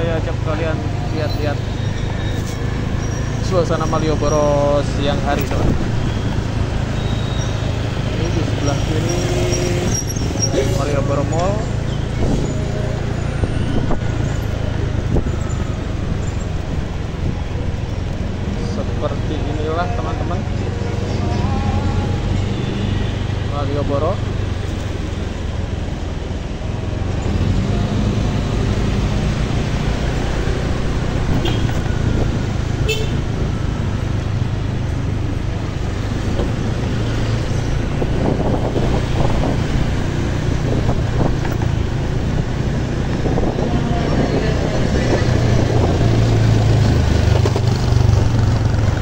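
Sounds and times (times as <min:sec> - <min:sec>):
cars passing: 0:00.0 - 0:49.0
motorcycle engine and road noise: 0:00.0 - 0:49.0.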